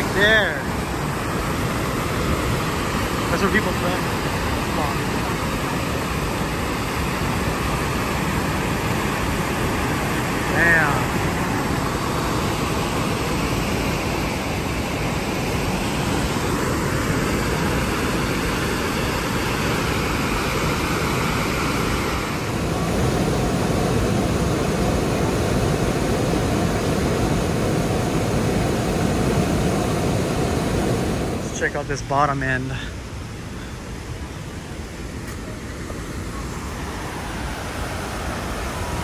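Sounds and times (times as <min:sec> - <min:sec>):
river rushing over waterfall: 0:00.0 - 0:39.0.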